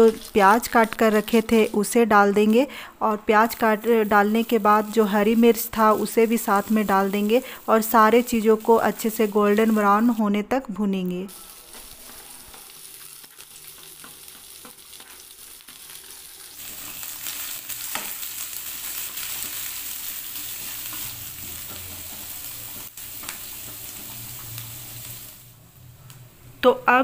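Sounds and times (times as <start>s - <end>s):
onion sizzling in hot oil: 0.0s - 10.4s, 11.3s - 26.6s.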